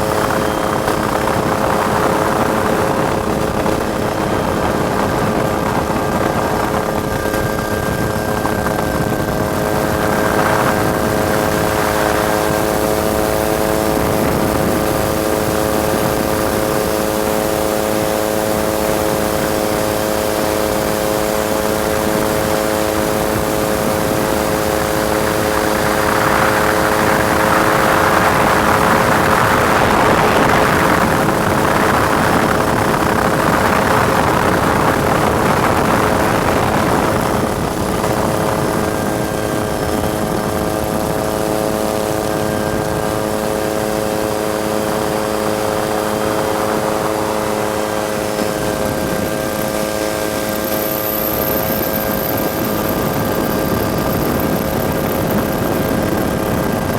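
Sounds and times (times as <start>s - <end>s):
helicopter running overhead: 0.0s - 56.9s.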